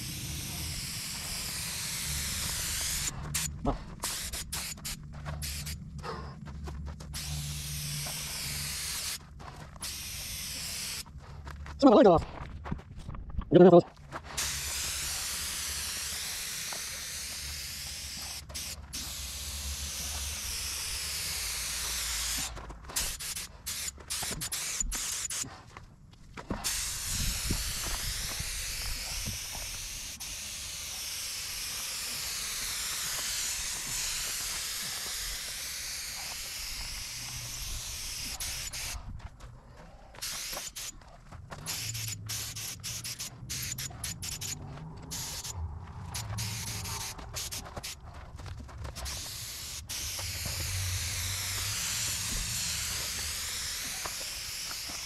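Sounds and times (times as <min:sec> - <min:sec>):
paint sprayer hissing: 0:00.0 - 0:05.8, 0:07.2 - 0:09.2, 0:09.8 - 0:11.1, 0:14.3 - 0:25.6, 0:26.5 - 0:39.0, 0:40.2 - 0:48.0, 0:48.9 - 0:55.0.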